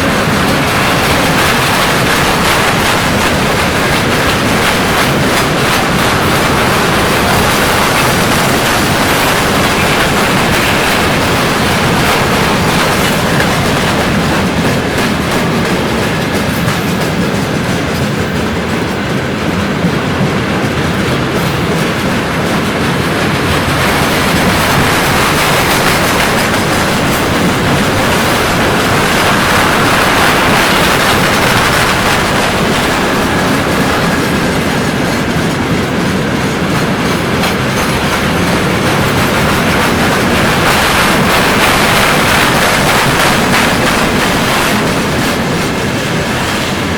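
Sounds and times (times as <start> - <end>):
train wheels clattering over rail joints: 0.0 - 46.9.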